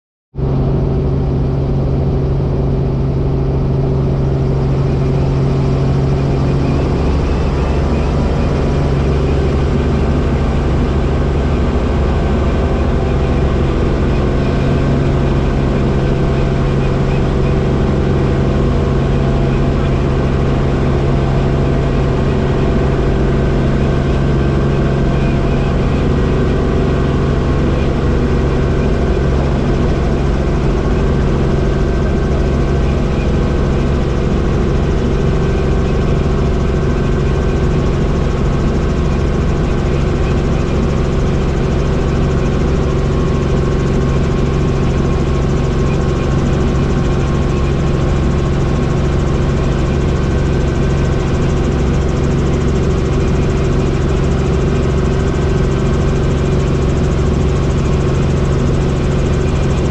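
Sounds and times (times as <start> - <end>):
helicopter engine and rotor drone: 0.4 - 59.9.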